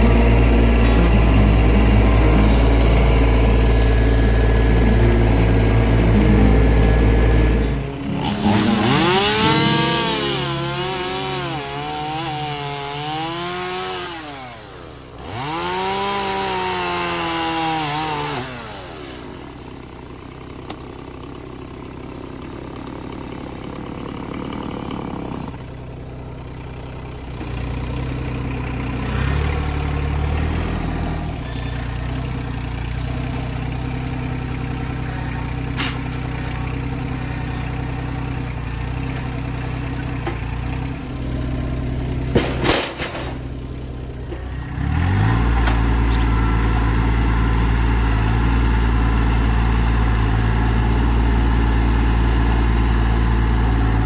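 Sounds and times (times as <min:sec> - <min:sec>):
chainsaw cutting logs: 0:00.0 - 0:54.0
tractor engine running: 0:00.0 - 0:54.0.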